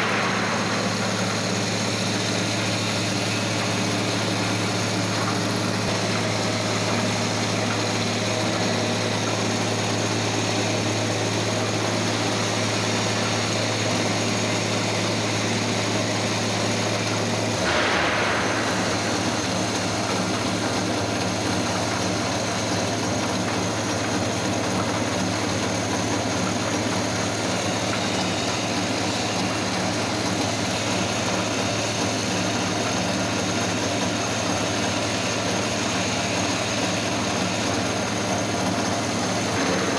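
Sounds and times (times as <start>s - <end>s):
milling machine hum: 0.0s - 39.9s.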